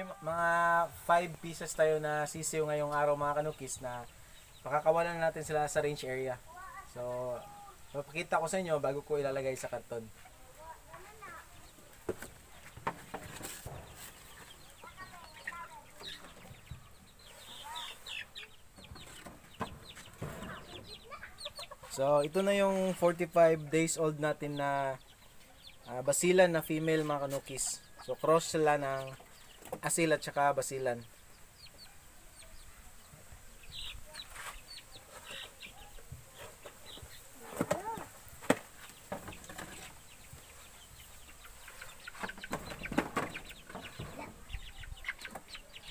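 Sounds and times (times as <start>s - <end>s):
chicks chirping and clucking: 0.0s - 45.9s.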